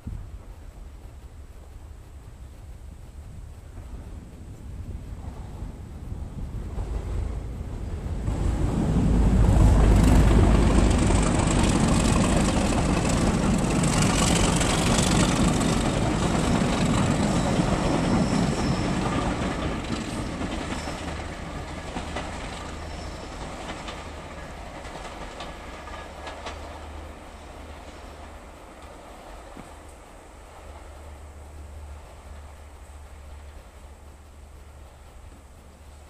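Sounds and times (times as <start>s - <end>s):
diesel locomotive engine rumble: 0.0s - 36.0s
train wheels clicking over rail joints: 3.3s - 36.0s.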